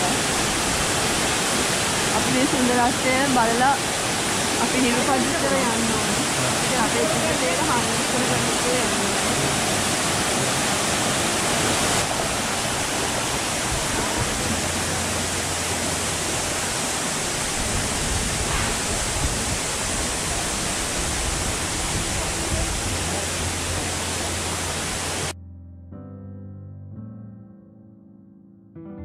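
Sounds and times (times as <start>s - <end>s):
waterfall rushing: 0.0s - 25.4s.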